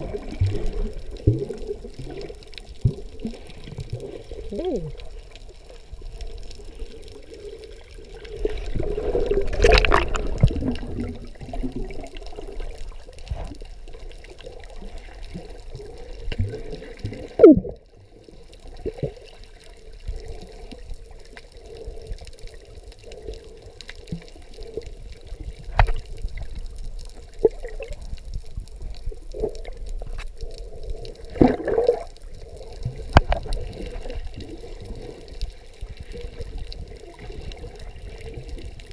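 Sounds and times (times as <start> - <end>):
muffled underwater churning and bubbling: 0.0 - 38.9.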